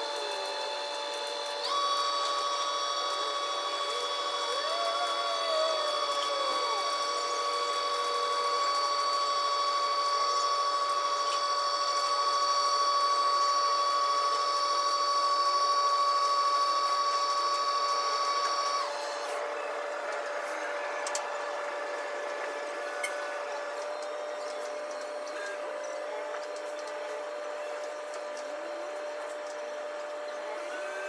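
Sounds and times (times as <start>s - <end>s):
hoist winch whining: 0.0s - 31.0s.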